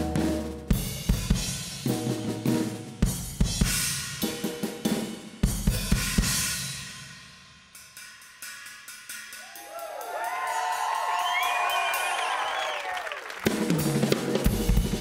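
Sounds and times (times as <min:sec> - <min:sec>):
drum fills: 0:00.0 - 0:07.1, 0:07.7 - 0:15.0.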